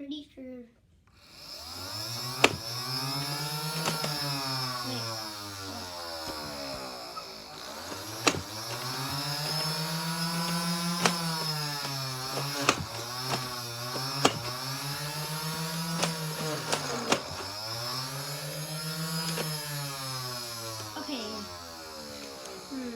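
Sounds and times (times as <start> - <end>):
toy blaster motor whirring: 1.2 - 22.9.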